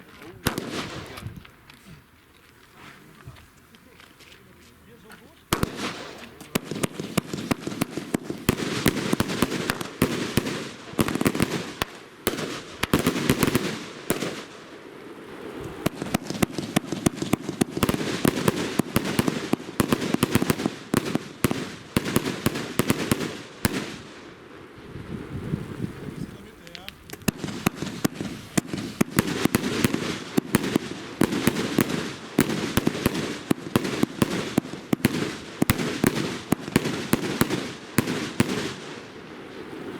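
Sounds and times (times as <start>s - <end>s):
fireworks firing and crackling: 0.0s - 39.9s.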